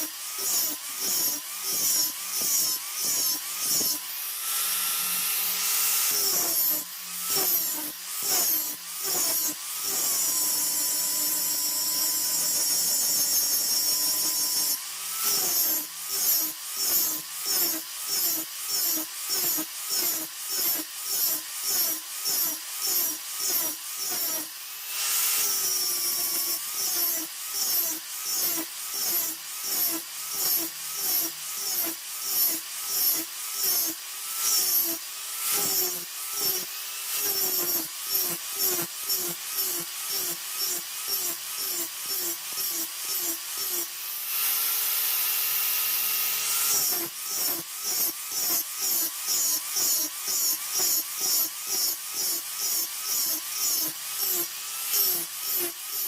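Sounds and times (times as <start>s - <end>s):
power tool motor under load: 0.0s - 56.0s.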